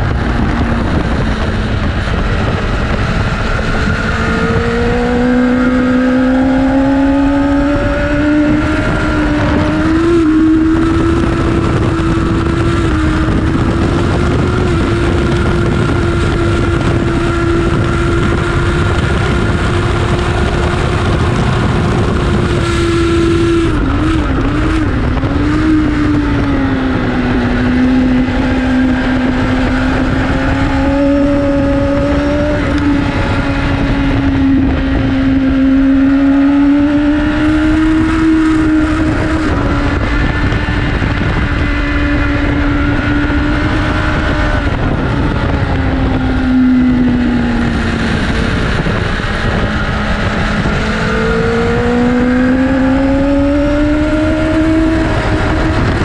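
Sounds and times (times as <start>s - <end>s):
heavy wind rush: 0.0s - 56.0s
motorcycle engine at speed: 0.0s - 56.0s.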